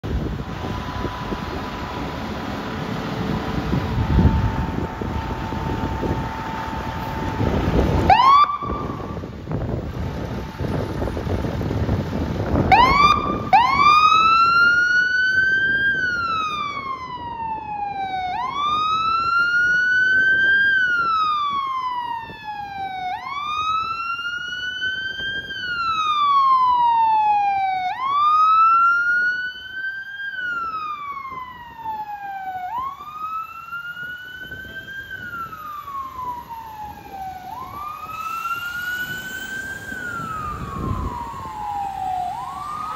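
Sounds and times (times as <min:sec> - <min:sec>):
siren chirps: 0:00.0 - 0:11.6, 0:12.5 - 0:42.9
engine rumble: 0:00.0 - 0:42.9
fire engine siren wailing: 0:00.0 - 0:42.9.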